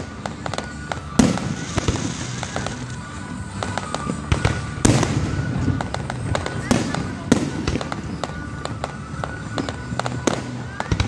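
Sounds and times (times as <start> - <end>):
fireworks bangs and crackles: 0.0 - 11.0
fireworks booms: 0.0 - 11.0
music playing: 0.0 - 11.0.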